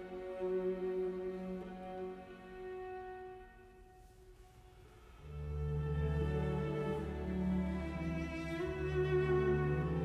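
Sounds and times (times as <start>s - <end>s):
slow bowed string music: 0.0s - 10.0s.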